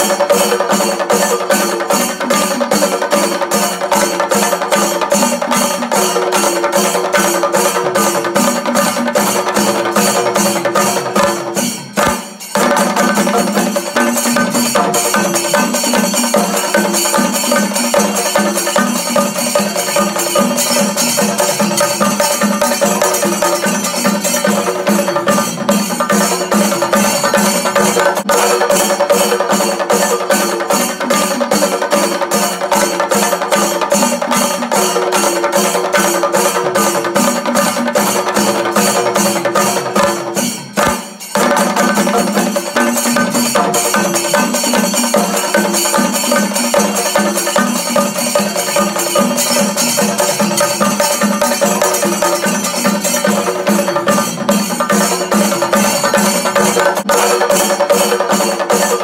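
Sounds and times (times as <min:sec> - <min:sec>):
music with fast percussion beat: 0:00.0 - 0:59.0.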